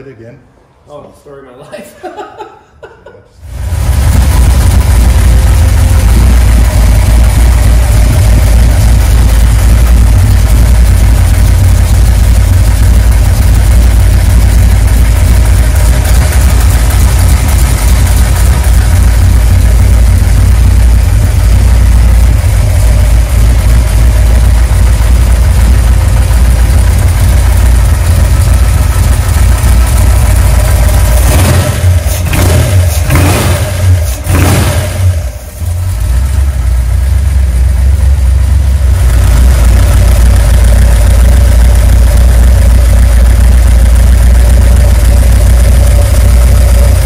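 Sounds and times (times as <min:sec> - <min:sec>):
loud car engine idling: 0:03.4 - 0:47.0.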